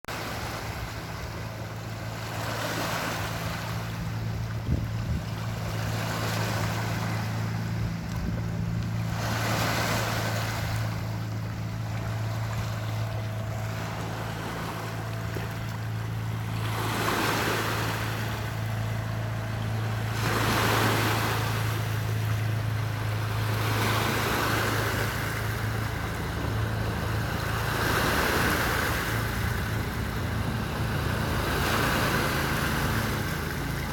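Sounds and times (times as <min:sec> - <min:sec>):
low motor hum: 0:00.0 - 0:33.9
sea waves washing in: 0:00.0 - 0:33.9.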